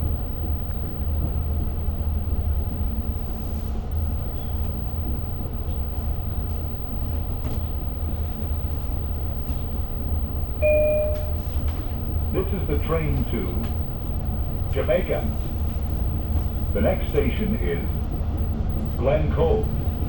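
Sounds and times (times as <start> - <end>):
train rumble inside coach: 0.0 - 20.0.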